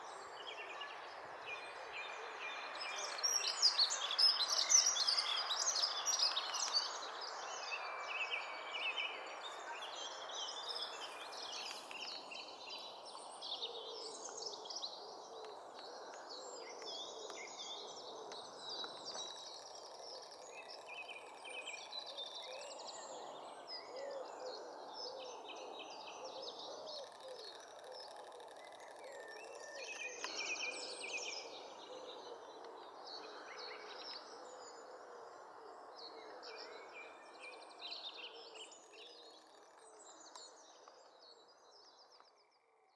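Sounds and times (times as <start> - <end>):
birds singing and calling: 0.0 - 42.6.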